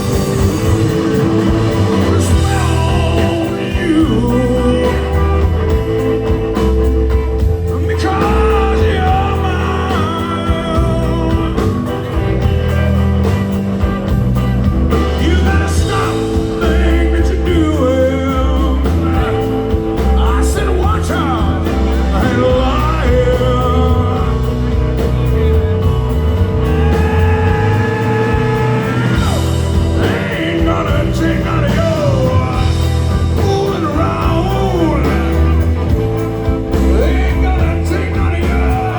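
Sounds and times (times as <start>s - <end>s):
rock song with singing: 0.0s - 38.9s.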